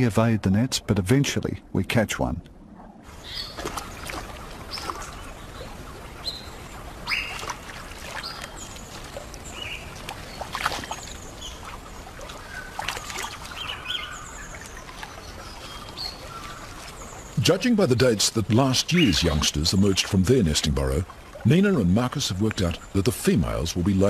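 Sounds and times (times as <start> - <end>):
birds chirping: 0.0 - 24.0
river water running: 0.0 - 24.0
knocks and splashes in water: 3.2 - 23.2.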